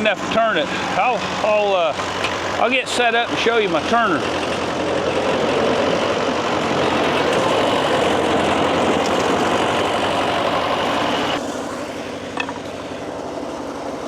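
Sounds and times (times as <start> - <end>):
sawmill engine running: 0.0 - 14.0.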